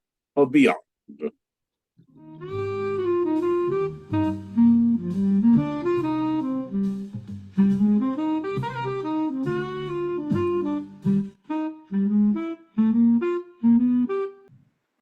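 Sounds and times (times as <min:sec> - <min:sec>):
saxophone jazz tune: 0:02.1 - 0:14.5.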